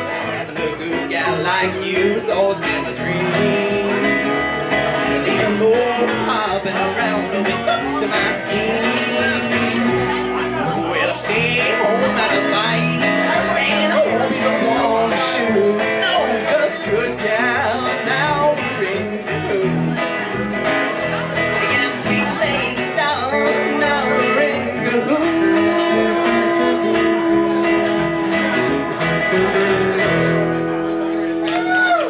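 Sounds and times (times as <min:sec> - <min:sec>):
acoustic guitar: 0:00.0 - 0:32.0
electric guitar: 0:00.0 - 0:32.0
upright bass: 0:00.0 - 0:32.0.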